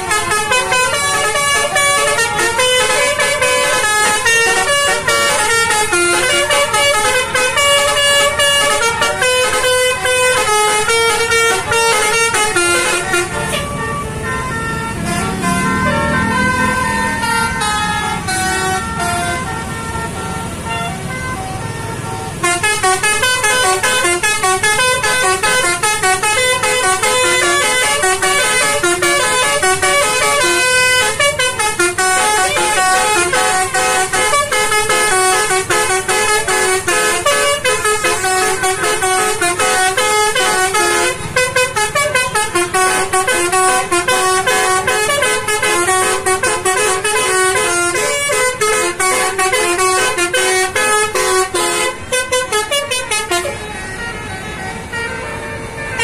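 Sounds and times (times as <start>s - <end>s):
bus horn playing melody: 0.0s - 56.0s.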